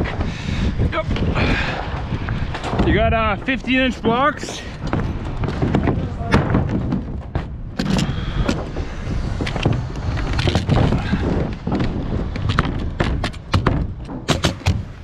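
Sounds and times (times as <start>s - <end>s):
wood panel scraping: 1.2s - 15.0s.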